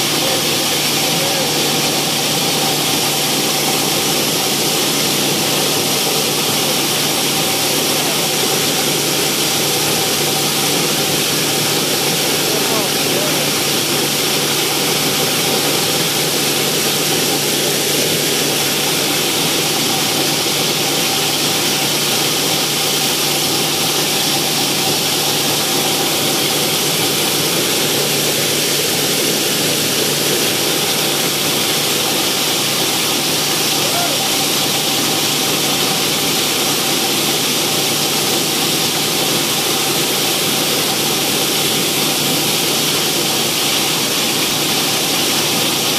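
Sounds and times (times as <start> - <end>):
constant machine hum: 0.0 - 45.9.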